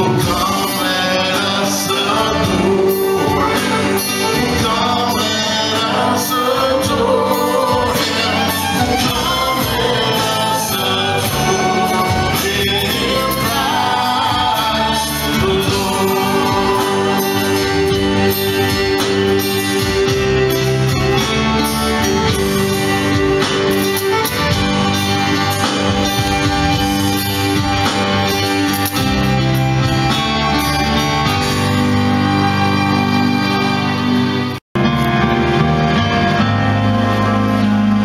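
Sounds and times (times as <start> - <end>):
bass guitar: 0.0 - 38.0
electric keyboard: 0.0 - 38.0
fiddle: 0.0 - 38.0
strummed acoustic guitars: 0.0 - 38.0.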